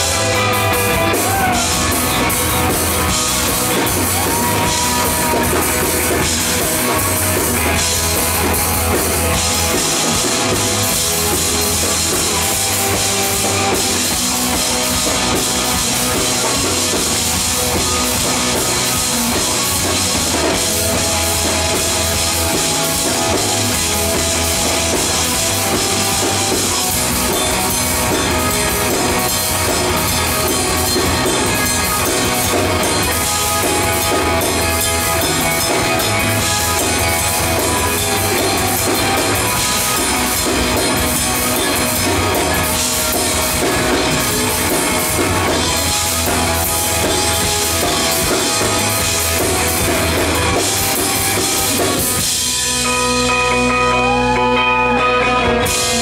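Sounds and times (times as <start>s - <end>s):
live rock band playing loud: 0.0s - 56.0s.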